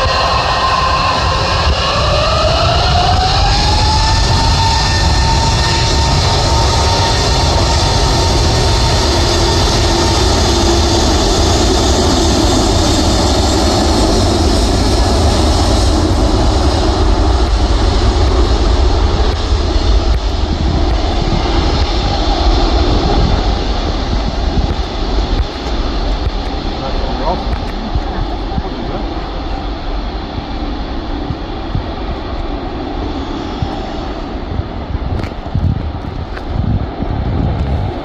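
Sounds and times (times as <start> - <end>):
jet engines roaring on takeoff: 0.0 - 38.0.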